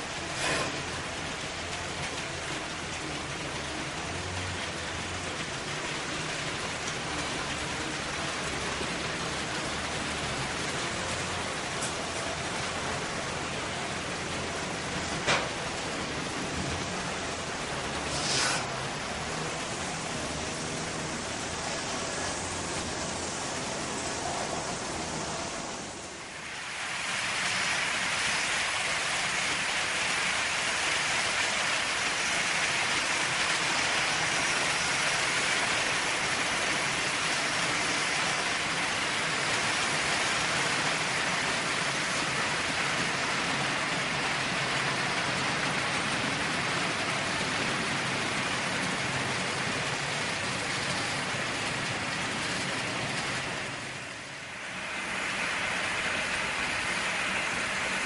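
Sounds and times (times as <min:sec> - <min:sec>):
model train wheels rolling on rails: 0:00.0 - 0:58.0.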